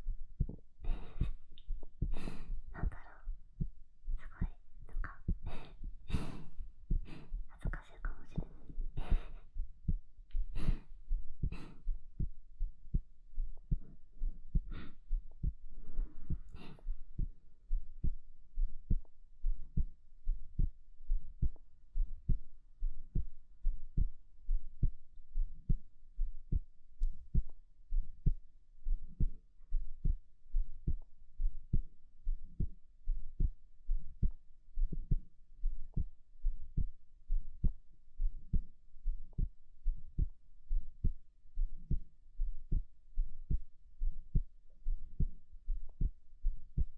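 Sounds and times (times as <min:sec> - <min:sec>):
heartbeat double thumps: 0:00.0 - 0:46.9.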